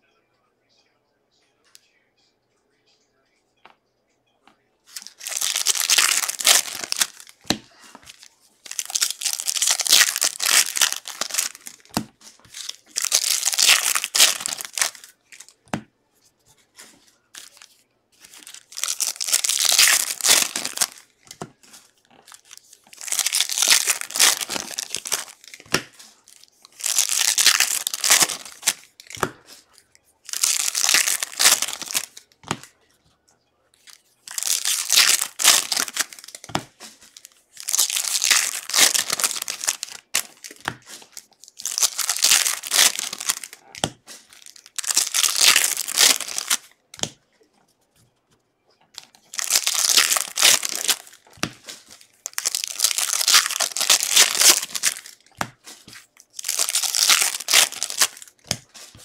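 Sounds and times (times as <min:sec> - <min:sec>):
wrappers tearing and crinkling: 0:04.9 - 0:15.6, 0:17.4 - 0:32.4, 0:33.8 - 0:46.8, 0:49.0 - 0:59.0.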